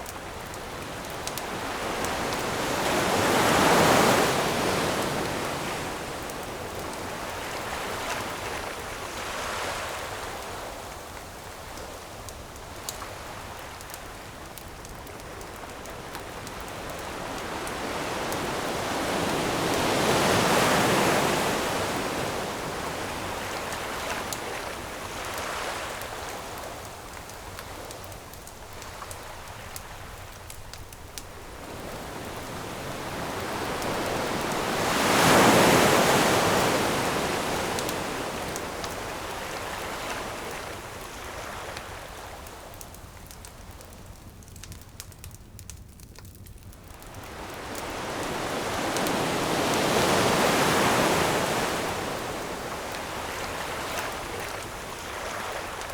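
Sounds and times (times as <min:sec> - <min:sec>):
ocean waves on shore: 0:00.0 - 0:42.9, 0:46.9 - 0:55.9
campfire crackling: 0:00.0 - 0:55.9.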